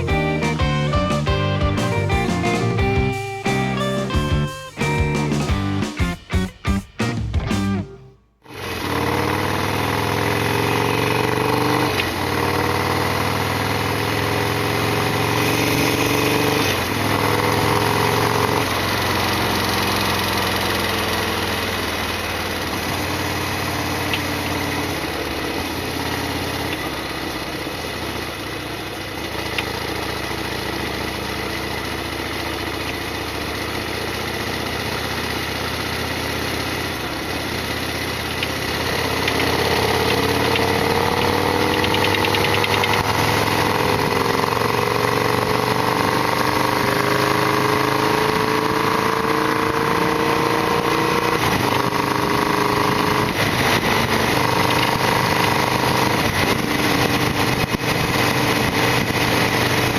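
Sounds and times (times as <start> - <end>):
motorcycle engine pulling away: 8.5 - 59.9.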